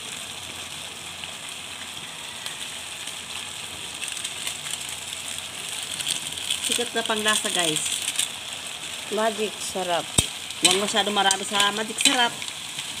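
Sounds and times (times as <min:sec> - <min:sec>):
crackles: 0:00.0 - 0:13.0
food sizzling in a wok: 0:00.0 - 0:13.0.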